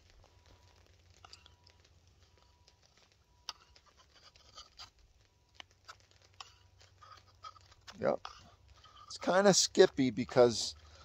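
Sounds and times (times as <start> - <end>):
knife shaving wooden stick: 0.0 - 11.0.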